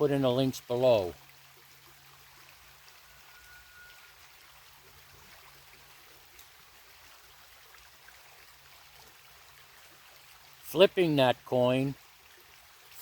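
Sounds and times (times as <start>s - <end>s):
creek babbling: 0.0s - 13.0s.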